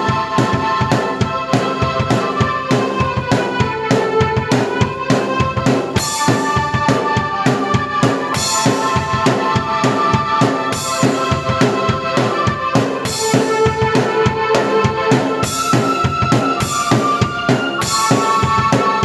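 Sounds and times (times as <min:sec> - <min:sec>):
rock drum kit playing: 0:00.0 - 0:19.0
synthesizer chords: 0:00.0 - 0:19.0.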